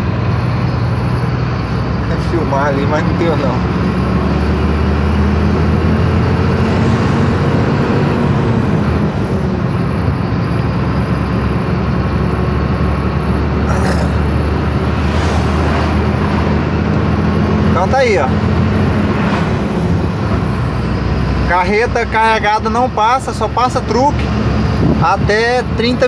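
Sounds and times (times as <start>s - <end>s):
diesel engine droning: 0.0s - 26.0s
passing traffic whoosh: 0.0s - 26.0s
road and wind noise: 0.0s - 26.0s.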